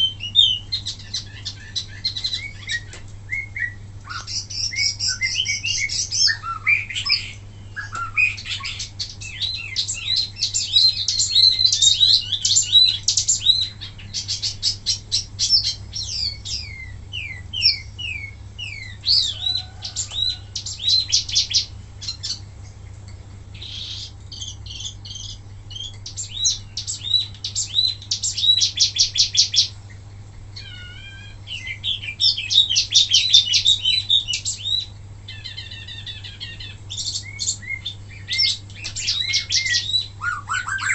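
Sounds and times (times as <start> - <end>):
songbird trilling: 0.0 - 22.5, 23.5 - 29.8, 30.6 - 40.9
faint low hum: 0.0 - 40.9.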